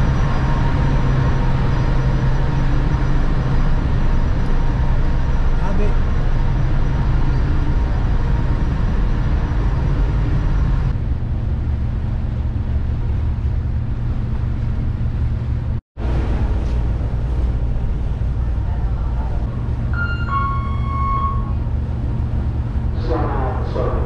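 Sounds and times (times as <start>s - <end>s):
ferry engines rumbling: 0.0s - 24.0s.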